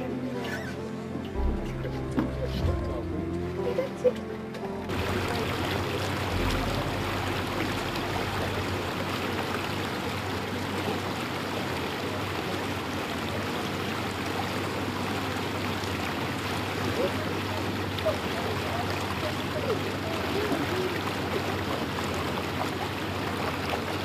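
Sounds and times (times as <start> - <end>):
boat engine hum: 0.0 - 24.0
rushing water: 0.0 - 24.0
wind: 0.0 - 24.0.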